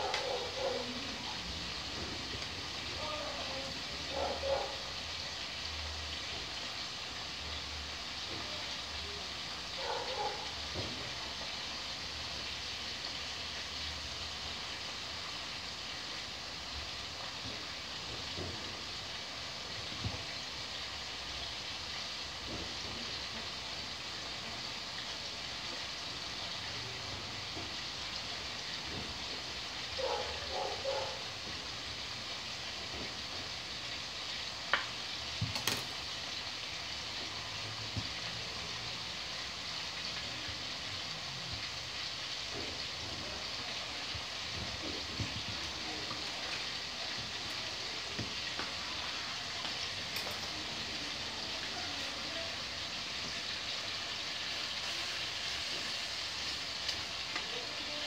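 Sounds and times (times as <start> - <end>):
chicken frying sizzle: 0.0 - 58.0.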